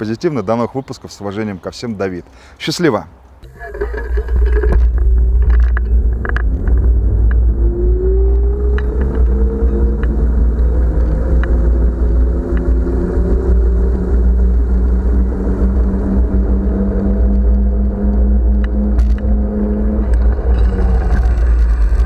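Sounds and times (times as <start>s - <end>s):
wind rumble on microphone: 3.4s - 22.0s
electric motor whine: 3.9s - 22.0s.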